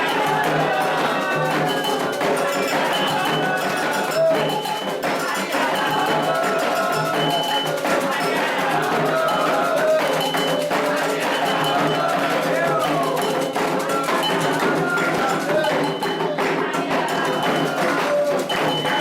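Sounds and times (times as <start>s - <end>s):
percussion: 0.0s - 19.0s
voices chanting: 0.0s - 19.0s.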